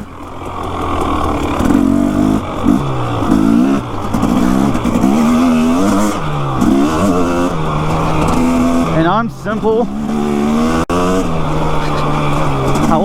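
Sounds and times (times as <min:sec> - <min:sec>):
motorcycle engine revving: 0:00.0 - 0:13.0
wind and road noise: 0:00.0 - 0:13.0.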